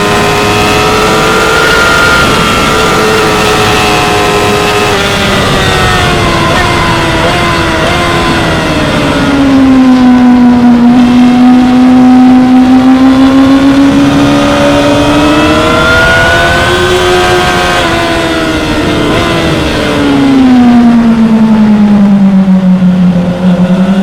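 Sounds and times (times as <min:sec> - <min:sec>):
motorcycle engine at high revs: 0:00.0 - 0:24.0.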